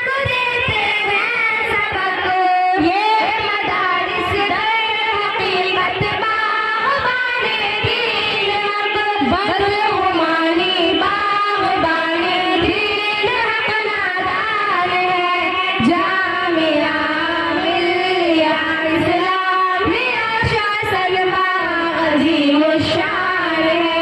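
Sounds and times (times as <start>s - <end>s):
girls singing into microphones: 0.0s - 24.0s.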